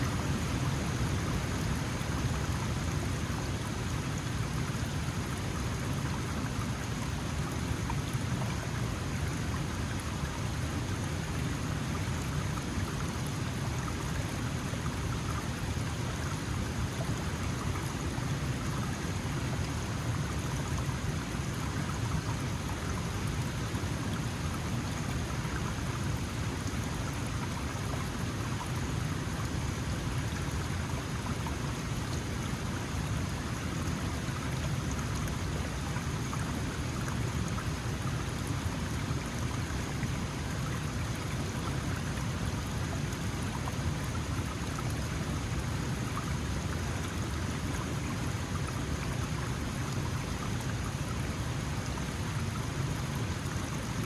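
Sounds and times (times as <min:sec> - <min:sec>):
stream splashing over stones: 0:00.0 - 0:54.0.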